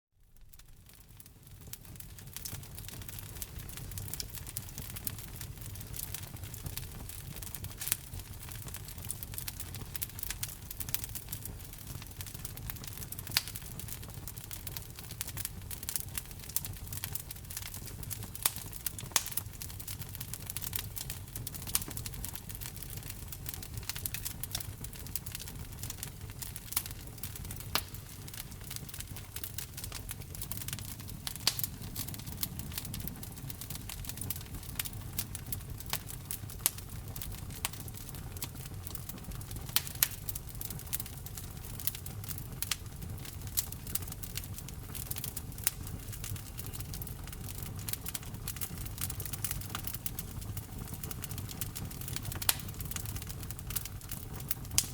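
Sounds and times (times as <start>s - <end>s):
fire crackling: 0.3s - 54.9s
low rumble of flames: 0.3s - 54.9s
burning wood popping: 0.4s - 54.9s.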